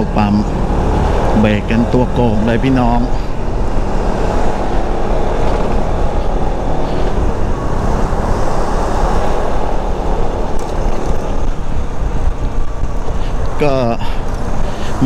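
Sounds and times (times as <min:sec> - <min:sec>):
scooter engine and road rumble: 0:00.0 - 0:15.0.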